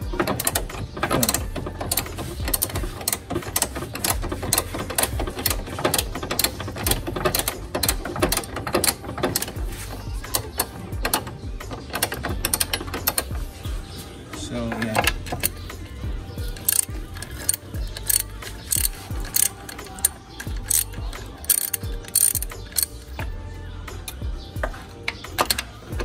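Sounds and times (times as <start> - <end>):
ratchet wrench clicking: 0.0 - 13.5, 14.7 - 23.3, 25.1 - 26.0.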